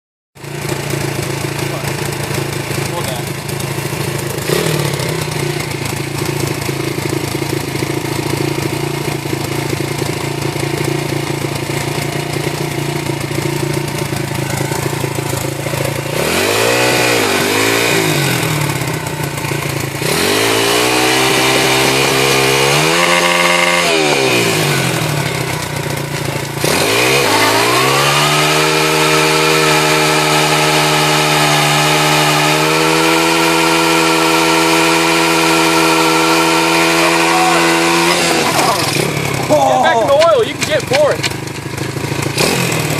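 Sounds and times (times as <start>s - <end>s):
pit bike engine idling and revving: 0.4s - 42.9s.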